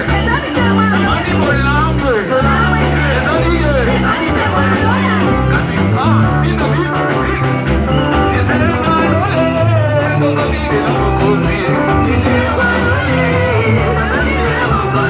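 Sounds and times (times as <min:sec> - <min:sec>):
bass line: 0:00.0 - 0:15.0
drums: 0:00.0 - 0:15.0
guitar: 0:00.0 - 0:15.0
voices singing: 0:00.0 - 0:15.0.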